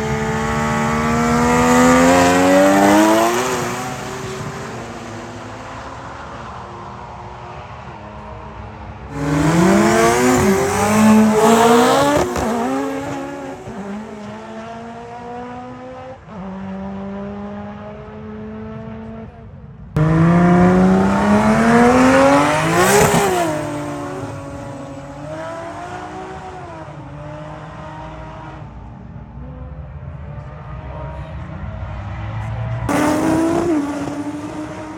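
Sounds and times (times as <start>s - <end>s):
car engines revving and accelerating: 0.0s - 34.9s.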